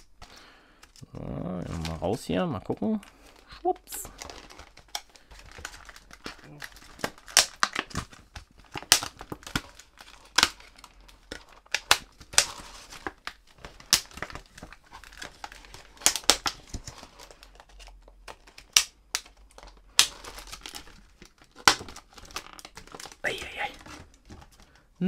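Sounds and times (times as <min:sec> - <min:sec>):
plastic packaging crackling: 0:00.0 - 0:24.9.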